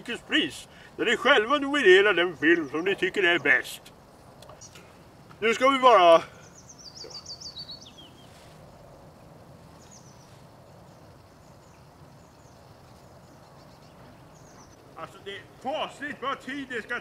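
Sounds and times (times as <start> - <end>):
quiet outdoor background noise: 0.0 - 17.0
small songbirds chirping: 0.0 - 17.0.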